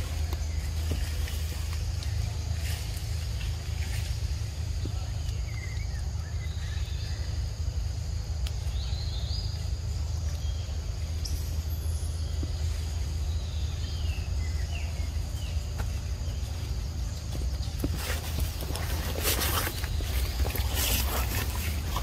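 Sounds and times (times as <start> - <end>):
insects buzzing: 0.0 - 22.0
steady low rumble: 0.0 - 22.0.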